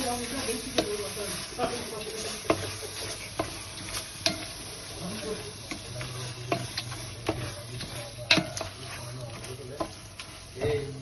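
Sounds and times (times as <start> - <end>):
food sizzling in oil: 0.0 - 11.0
ladle knocking and scraping pot: 0.0 - 11.0.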